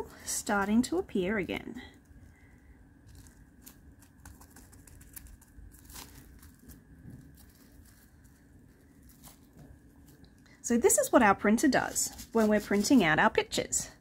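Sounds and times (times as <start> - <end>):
bubble wrap crinkling: 0.1 - 13.6.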